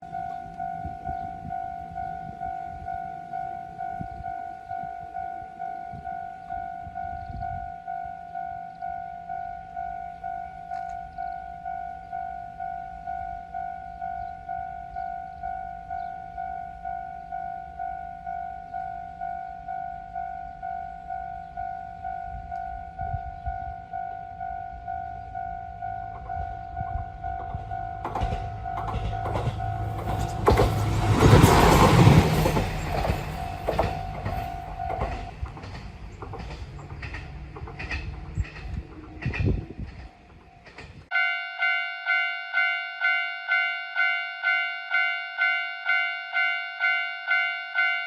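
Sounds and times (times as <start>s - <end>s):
railroad crossing alarm ringing: 0.0s - 48.0s.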